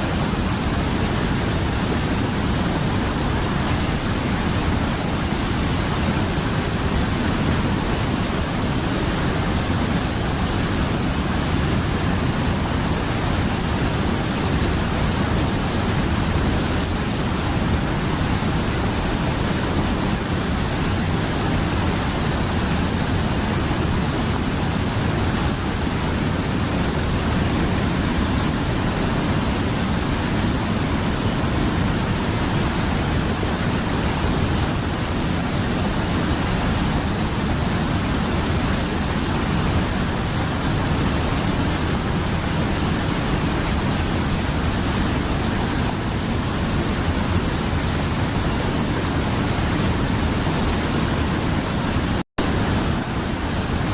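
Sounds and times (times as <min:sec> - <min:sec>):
mountain river rushing: 0:00.0 - 0:53.9.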